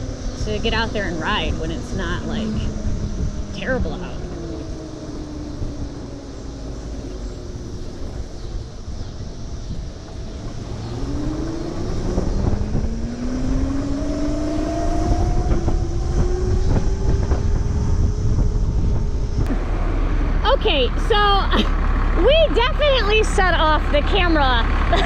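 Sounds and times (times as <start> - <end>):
electric moped motor whine: 0.0 - 21.6
wind rumble on microphone: 0.0 - 25.0.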